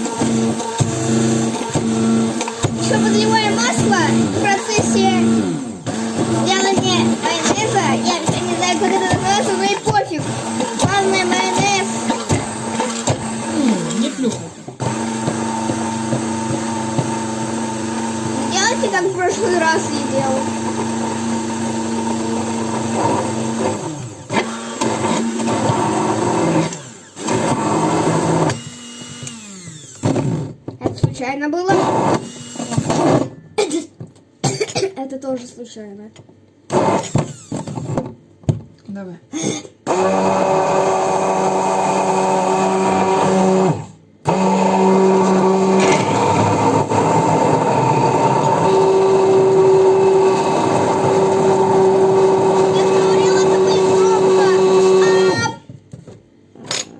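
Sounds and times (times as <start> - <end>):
immersion blender motor running: 0.0 - 30.6, 31.7 - 33.3, 36.7 - 38.0, 39.9 - 55.6.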